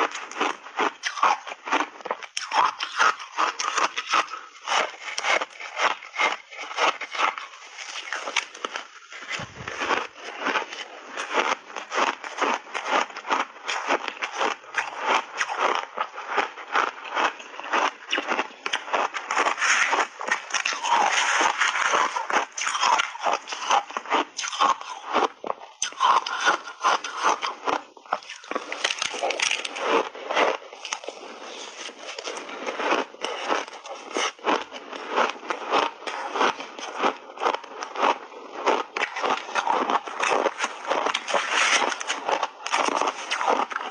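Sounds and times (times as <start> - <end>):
person chewing crunchy ice: 0.0 - 43.9.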